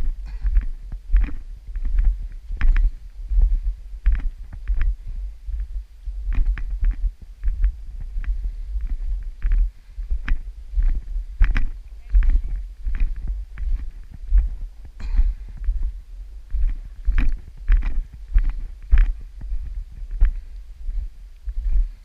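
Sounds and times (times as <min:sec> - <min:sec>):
footsteps crunching in snow: 0:00.0 - 0:22.0
wind buffeting microphone: 0:00.0 - 0:22.0.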